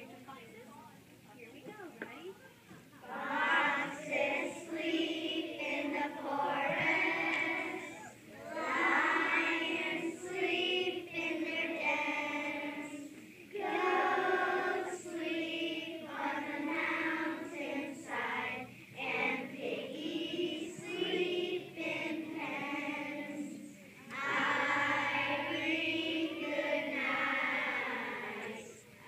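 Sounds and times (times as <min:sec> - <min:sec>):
children's choir singing: 0:03.0 - 0:29.0.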